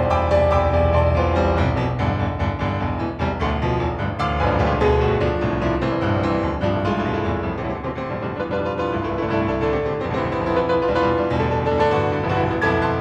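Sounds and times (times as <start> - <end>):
piano quick notes: 0.0 - 13.0.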